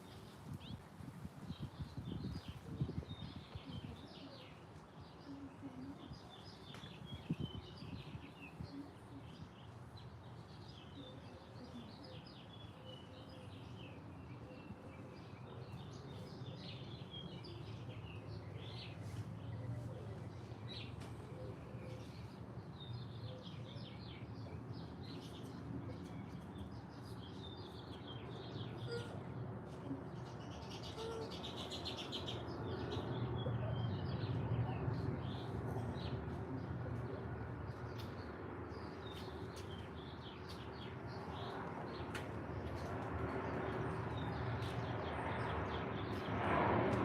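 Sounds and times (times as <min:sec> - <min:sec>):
small birds chirping: 0:00.0 - 0:46.5.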